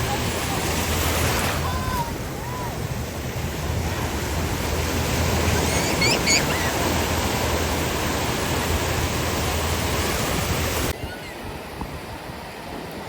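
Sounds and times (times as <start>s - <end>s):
ocean surf washing onto beach: 0.0s - 13.0s
wind rumbling on microphone: 0.0s - 13.0s.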